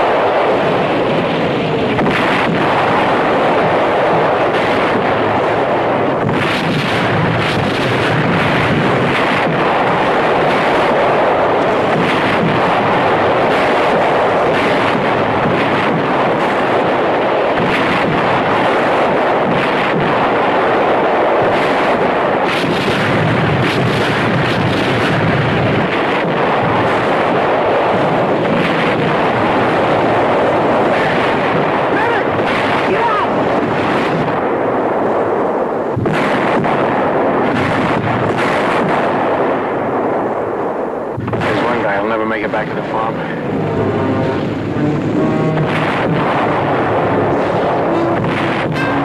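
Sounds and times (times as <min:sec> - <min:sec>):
artillery shells bursting: 0:00.0 - 0:49.0
dense continuous din: 0:00.0 - 0:49.0.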